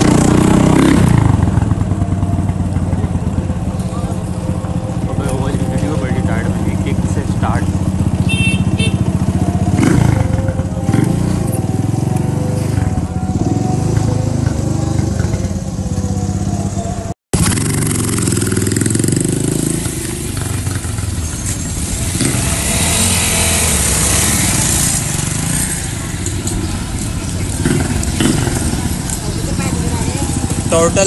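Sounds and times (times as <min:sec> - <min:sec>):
motorcycle engine running: 0:00.0 - 0:31.0
street traffic: 0:00.0 - 0:31.0.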